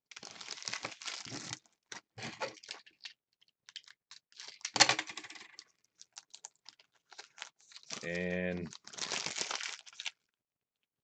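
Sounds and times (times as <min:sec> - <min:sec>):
foil wrapper crinkling: 0:00.1 - 0:04.8, 0:05.4 - 0:10.4.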